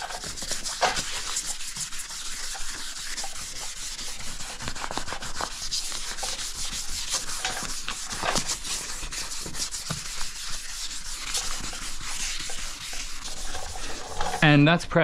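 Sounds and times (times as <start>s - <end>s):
sandpaper rubbing on bumper: 0.0s - 14.6s.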